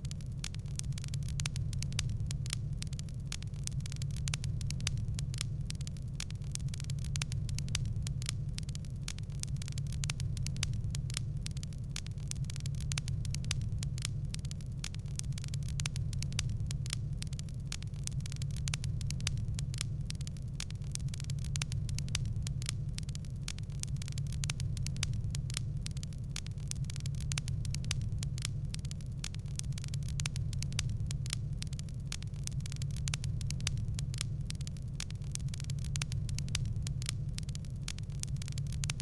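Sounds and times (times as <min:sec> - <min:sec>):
low fire rumble: 0:00.0 - 0:39.0
wood fire crackling: 0:00.0 - 0:39.0.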